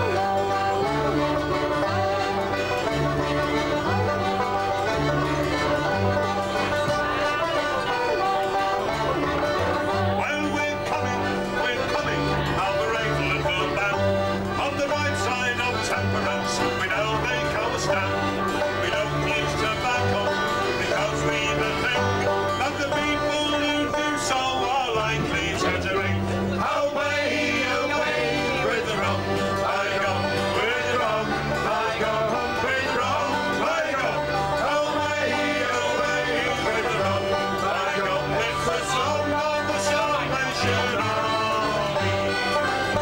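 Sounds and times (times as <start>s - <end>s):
accordion: 0.0s - 43.0s
acoustic guitar: 0.0s - 43.0s
banjo: 0.0s - 43.0s
bass line: 0.0s - 43.0s.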